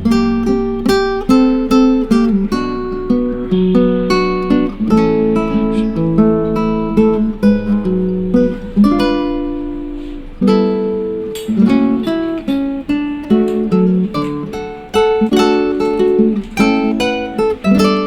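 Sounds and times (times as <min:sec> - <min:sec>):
acoustic guitar plucking and strumming: 0:00.0 - 0:18.0.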